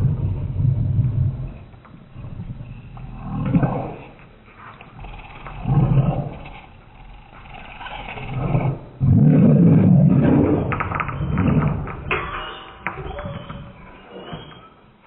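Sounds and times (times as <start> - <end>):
slowed deep dog growls: 0.0 - 12.2.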